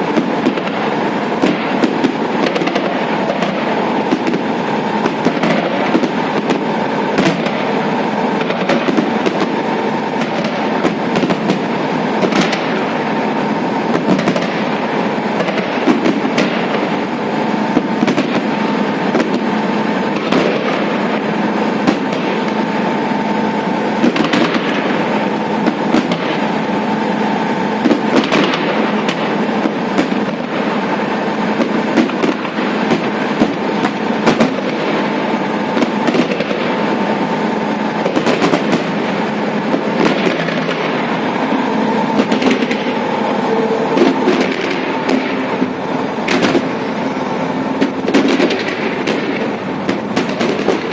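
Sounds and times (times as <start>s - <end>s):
firework bangs: 0.0s - 50.9s
firework crackle: 0.0s - 50.9s.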